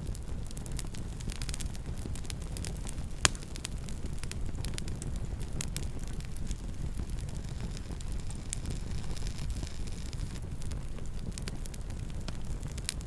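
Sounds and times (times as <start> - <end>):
campfire burning: 0.0 - 13.0
fire crackles: 0.0 - 13.0.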